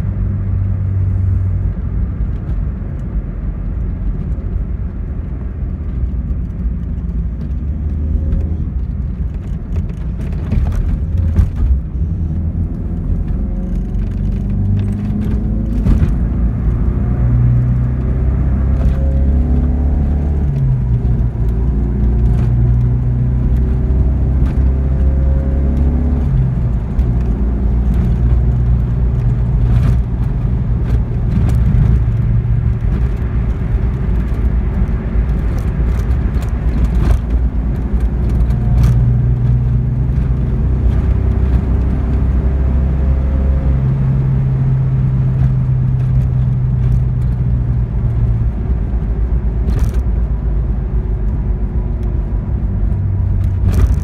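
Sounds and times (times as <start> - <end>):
car engine hum from inside cabin: 0.0 - 54.0
road noise: 0.0 - 54.0.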